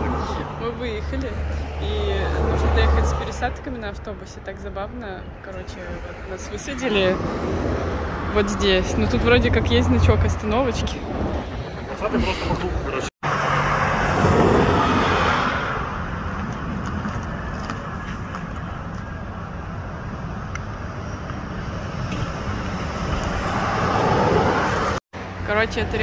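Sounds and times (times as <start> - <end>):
road traffic rushing: 0.0 - 26.0.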